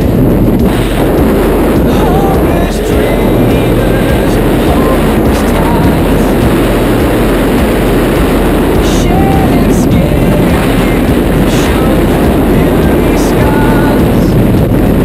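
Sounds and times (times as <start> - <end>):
freefall wind buffeting microphone: 0.0 - 15.0.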